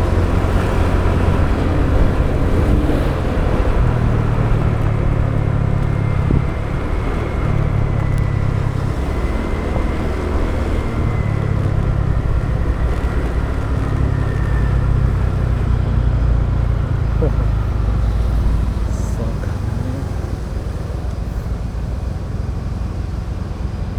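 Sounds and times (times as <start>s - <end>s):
road and wind noise: 0.0s - 23.9s.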